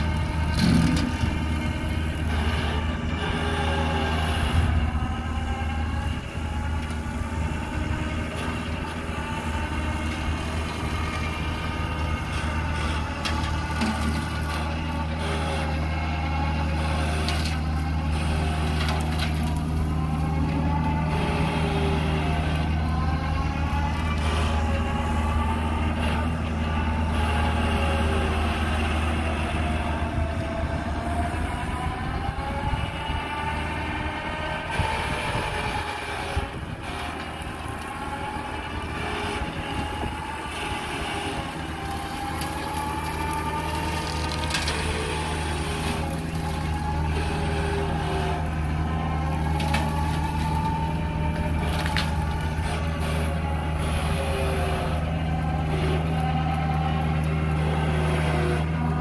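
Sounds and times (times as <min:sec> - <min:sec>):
excavator diesel engine running: 0:00.0 - 0:59.0
hydraulic brushcutter whining: 0:00.0 - 0:59.0.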